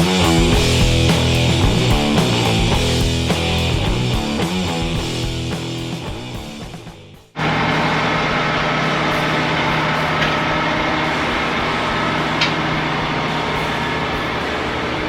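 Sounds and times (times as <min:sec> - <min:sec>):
diesel engine running: 0:00.0 - 0:06.8, 0:07.4 - 0:15.0.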